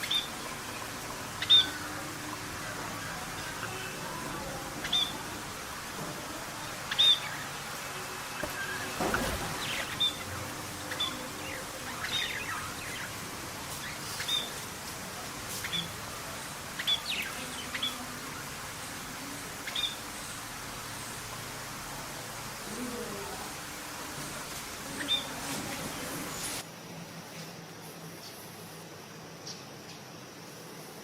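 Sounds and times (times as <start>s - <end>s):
small birds chirping: 0.0s - 21.5s, 22.4s - 26.6s
background hiss: 0.0s - 31.0s.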